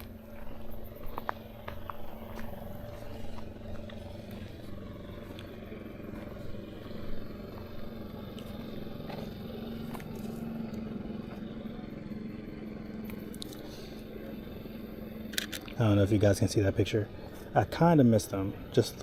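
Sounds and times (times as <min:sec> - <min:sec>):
engine running with low hum: 0:00.0 - 0:19.0.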